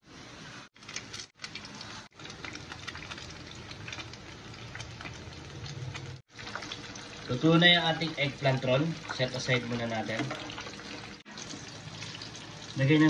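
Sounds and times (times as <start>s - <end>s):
deep-frying in hot oil: 0.1s - 13.0s.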